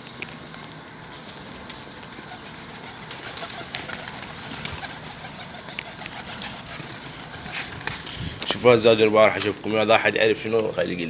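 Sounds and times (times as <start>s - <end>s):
pigeons cooing: 0.1s - 11.0s
pigeons shuffling: 0.2s - 10.4s.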